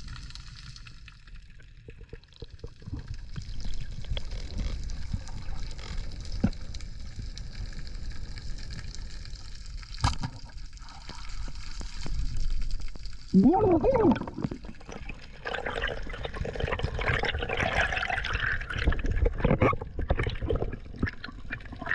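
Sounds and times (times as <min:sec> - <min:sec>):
small clicks underwater: 0:00.0 - 0:13.4, 0:16.4 - 0:21.9
underwater water rush: 0:00.0 - 0:21.9.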